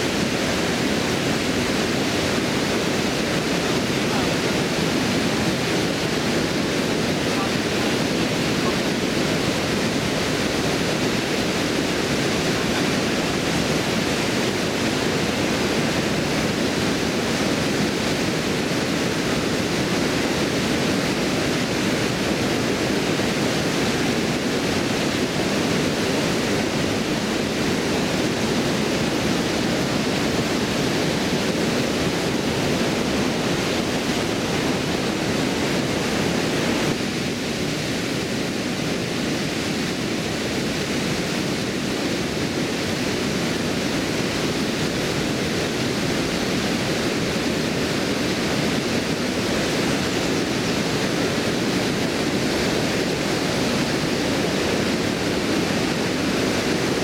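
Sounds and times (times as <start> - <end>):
water rushing over a weir: 0.0 - 57.0.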